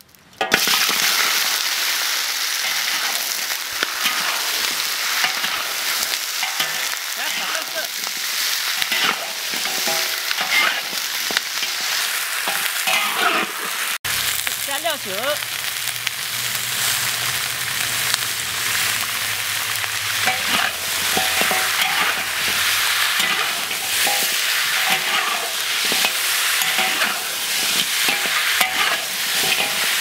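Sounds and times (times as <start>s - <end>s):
food sizzling in a wok: 0.0s - 30.0s
metal spatula scraping wok: 2.6s - 14.4s, 16.0s - 30.0s.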